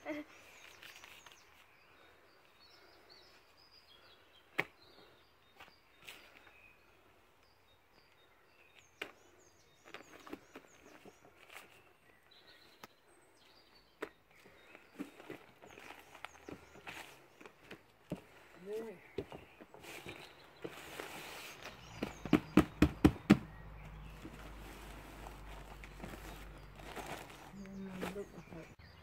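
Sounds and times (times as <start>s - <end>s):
birds chirping faintly: 0.0s - 29.0s.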